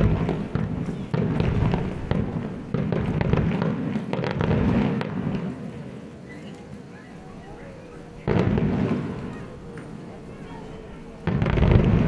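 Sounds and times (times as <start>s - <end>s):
fireworks booming: 0.0s - 6.1s, 7.6s - 12.0s
fireworks crackling pops: 0.0s - 10.6s, 11.2s - 12.0s.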